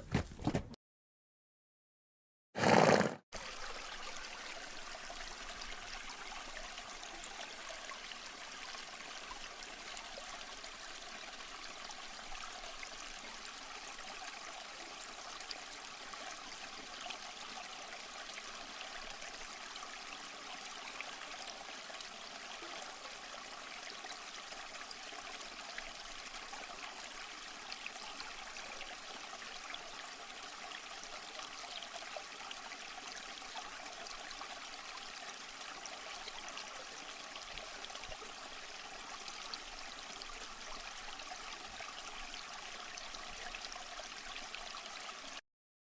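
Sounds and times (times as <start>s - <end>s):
stream trickling: 3.4s - 45.4s.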